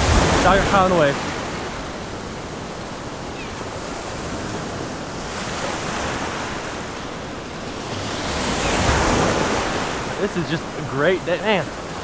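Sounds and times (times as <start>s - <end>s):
surf washing around legs: 0.0s - 12.0s.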